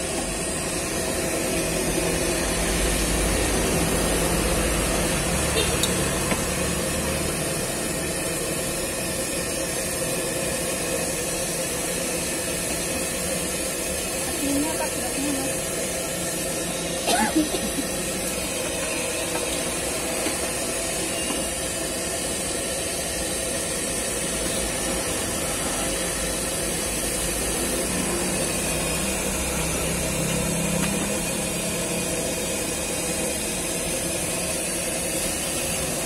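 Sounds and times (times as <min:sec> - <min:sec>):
gas stove burner hissing: 0:00.0 - 0:36.0.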